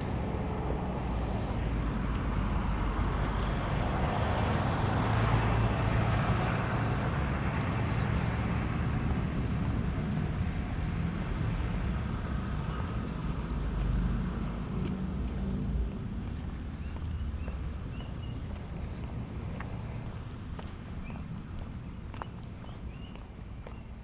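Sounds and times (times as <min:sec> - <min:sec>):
vehicle engine humming: 0:00.0 - 0:23.8.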